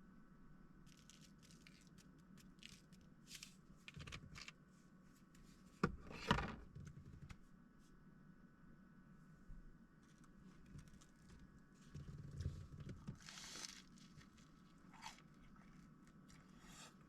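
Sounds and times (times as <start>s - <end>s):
faint scraping and rustling: 0.8s - 8.0s, 10.0s - 17.0s.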